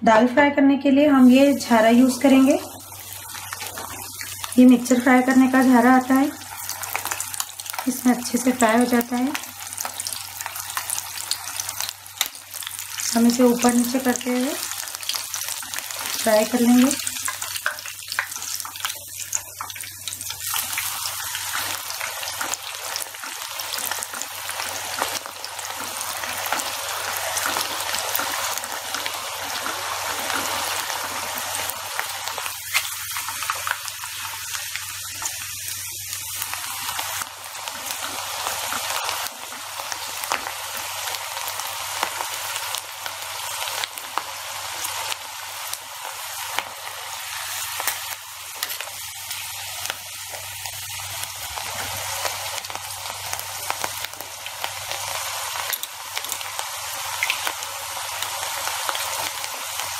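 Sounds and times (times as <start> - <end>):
lentils deep-frying in hot oil: 0.8 - 59.9.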